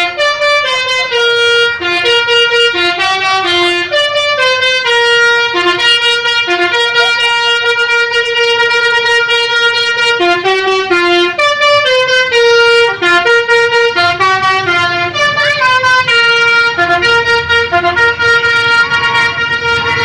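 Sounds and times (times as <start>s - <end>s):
bus horn playing a tune: 0.0s - 20.0s.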